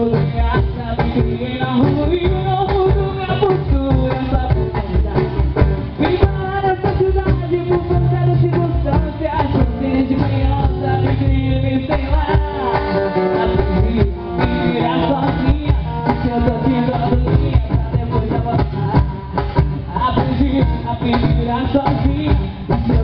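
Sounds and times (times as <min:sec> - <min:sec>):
live band instrumental music: 0:00.0 - 0:23.0
steady drum beat: 0:00.0 - 0:23.0.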